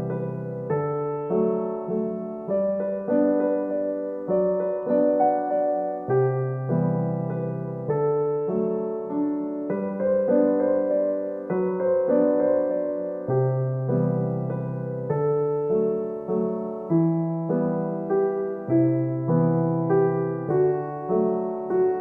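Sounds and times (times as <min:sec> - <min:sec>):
soft piano music: 0:00.0 - 0:22.0.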